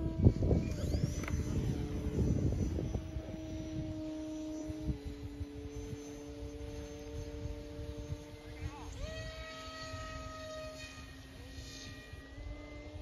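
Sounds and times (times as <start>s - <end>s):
faint high whine: 0.0s - 13.0s
model airplanes droning: 0.0s - 13.0s
wind rumble on microphone: 0.0s - 13.0s.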